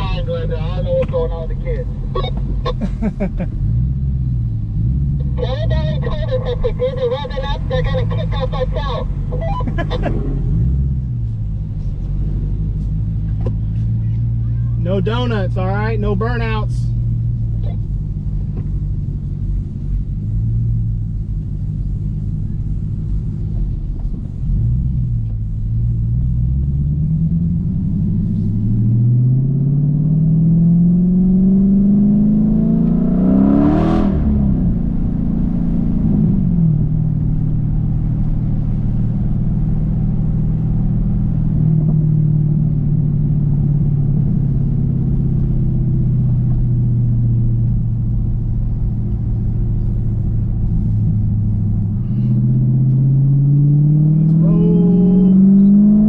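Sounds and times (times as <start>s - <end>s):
car engine and exhaust accelerating: 0.0s - 56.0s.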